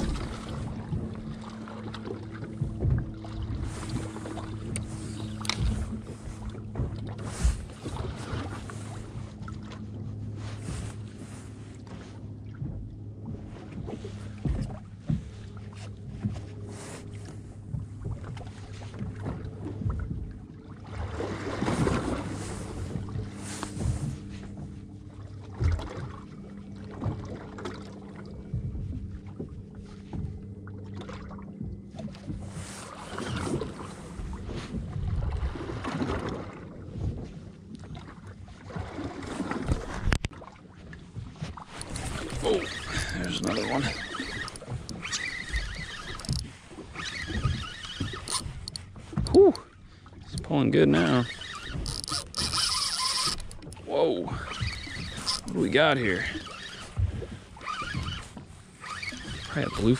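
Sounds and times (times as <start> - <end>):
outboard motor idling: 0.0 - 59.9.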